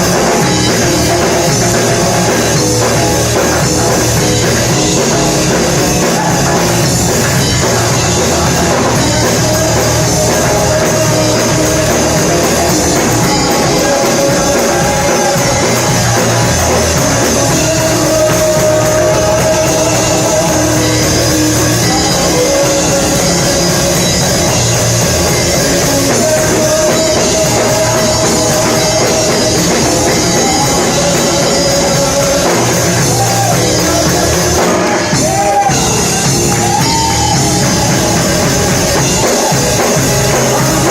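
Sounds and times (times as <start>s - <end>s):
worship band with drum kit: 0.0s - 40.9s.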